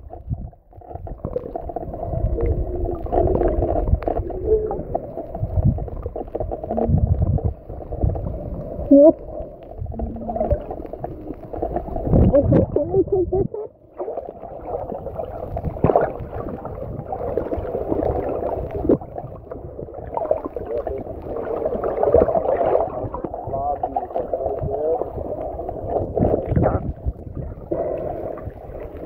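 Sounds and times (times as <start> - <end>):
air bubbles gurgling: 0.0 - 29.0
muffled underwater water noise: 0.0 - 29.0.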